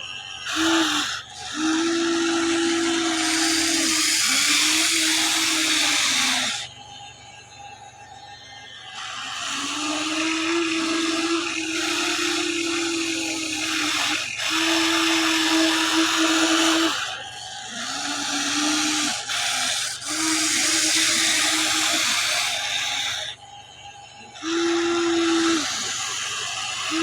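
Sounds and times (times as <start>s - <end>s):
small electric motors whining: 0.0s - 27.0s.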